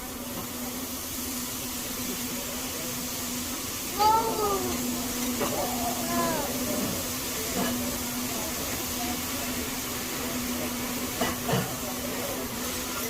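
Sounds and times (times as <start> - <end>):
faint background chatter: 0.0 - 13.0
food sizzling on griddle: 0.1 - 12.0.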